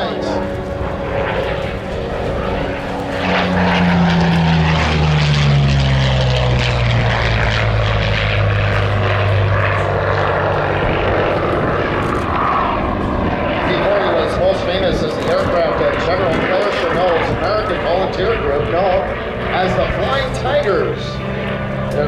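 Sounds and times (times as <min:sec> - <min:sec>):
propeller plane engine passing: 0:00.0 - 0:22.0.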